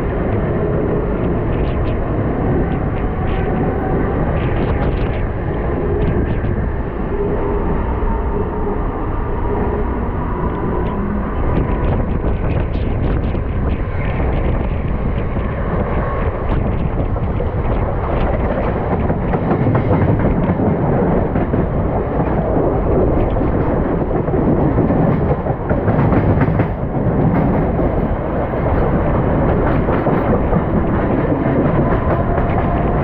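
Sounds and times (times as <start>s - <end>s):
train passing close by: 0.0s - 33.0s
train rumbling with wheel clatter: 0.0s - 33.0s.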